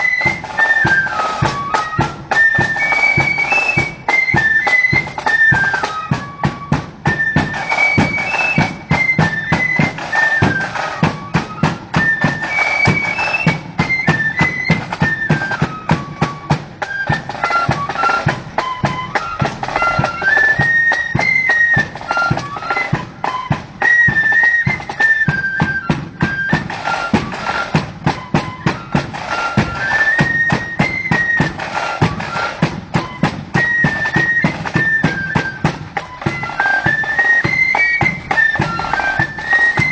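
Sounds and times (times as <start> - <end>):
flutes playing melody: 0.0 - 39.9
side drums and bass drum: 0.0 - 39.9.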